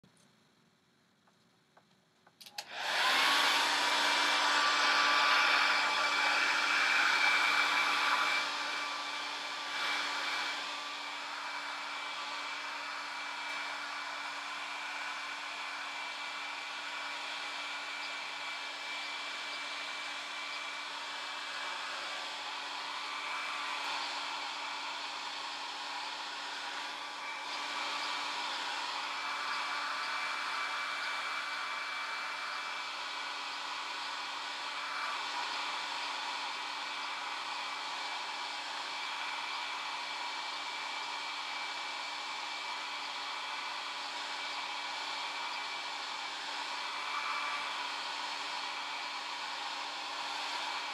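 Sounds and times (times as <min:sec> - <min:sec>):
electric fan motor whirring: 0:02.4 - 0:50.9.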